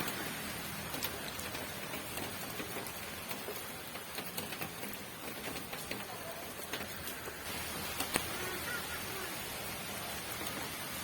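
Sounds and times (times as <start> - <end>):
rain falling with dripping ticks: 0.0 - 11.0.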